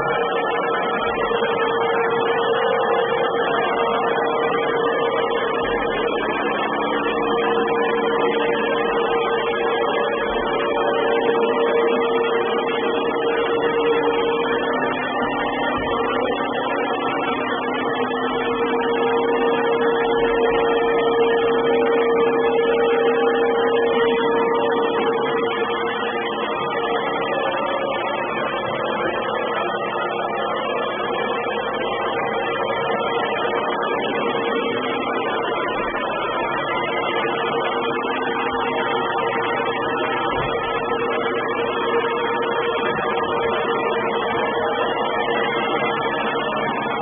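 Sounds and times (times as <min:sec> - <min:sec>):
robot vacuum cleaner running: 0:00.0 - 0:47.0.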